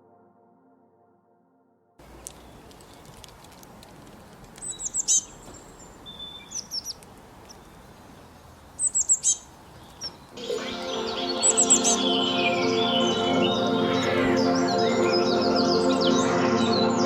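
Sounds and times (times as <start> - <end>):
faint background hiss: 2.0 - 15.9
songbird chirping: 2.0 - 17.0.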